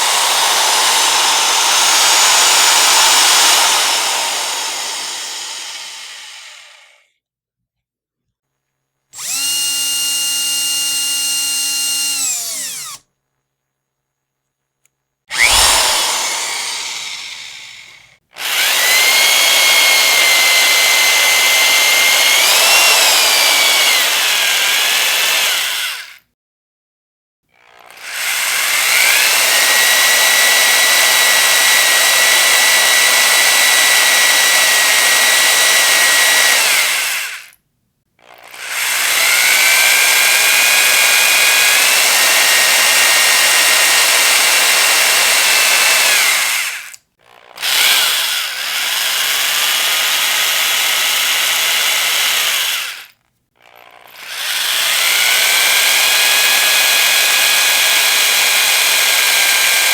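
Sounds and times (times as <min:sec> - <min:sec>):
electric power drill whining: 0:00.0 - 0:07.0, 0:09.2 - 0:13.0, 0:15.3 - 0:26.2, 0:27.8 - 0:37.6, 0:38.2 - 0:59.9.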